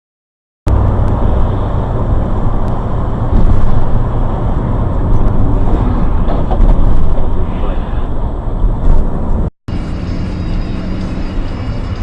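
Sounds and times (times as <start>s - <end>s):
car road and engine rumble: 0.7s - 12.0s.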